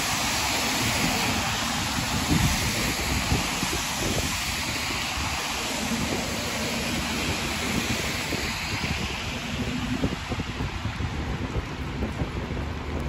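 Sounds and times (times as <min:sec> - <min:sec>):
rain on a wet street: 0:00.0 - 0:13.0
traffic on a wet road: 0:00.0 - 0:13.0
wind buffeting the microphone: 0:00.0 - 0:13.0.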